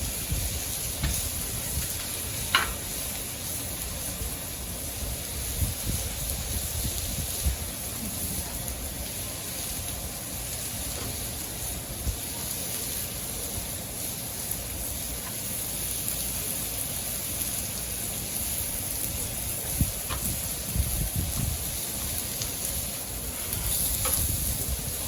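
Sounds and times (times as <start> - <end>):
food sizzling on a griddle: 0.0 - 25.0.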